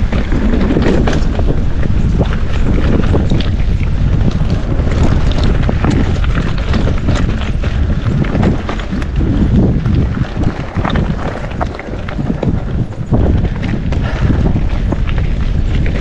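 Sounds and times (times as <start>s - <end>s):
bike clicks and rattles: 0.0s - 16.0s
wind buffeting the microphone: 0.0s - 16.0s.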